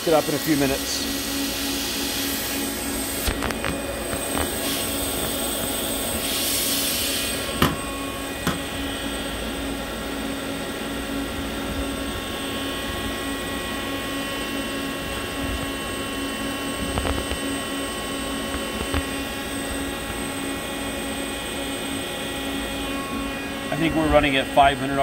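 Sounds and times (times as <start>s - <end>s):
lathe machine hum and whine: 0.0s - 25.0s.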